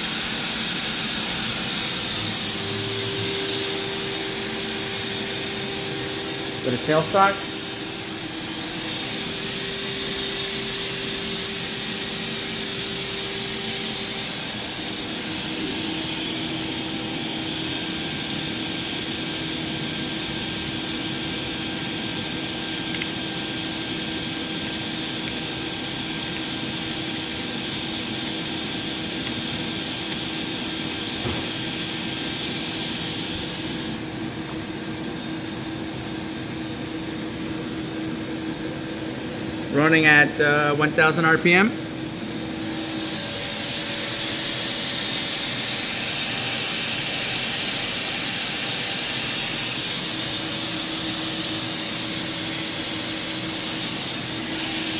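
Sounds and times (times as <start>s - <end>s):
steady machine tones: 0.0s - 19.0s, 23.9s - 54.9s
machining center humming: 0.0s - 54.9s.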